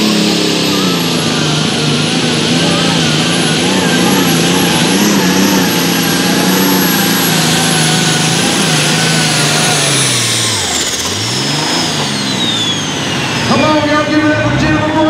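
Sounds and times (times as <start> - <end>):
diesel tractor engine under load: 0.0 - 15.0
high turbo whine: 0.0 - 15.0.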